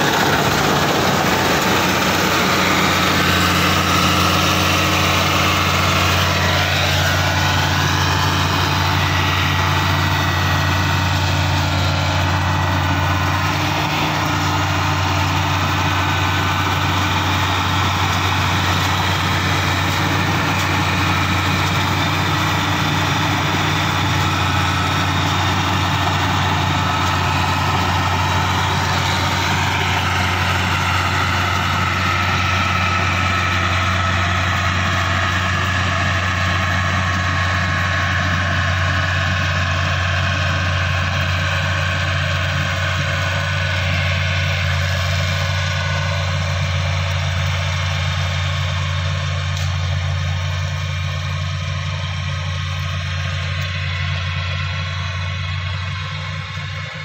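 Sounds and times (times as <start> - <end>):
combine harvester threshing: 0.0 - 57.0
tractor engine droning: 0.0 - 57.0.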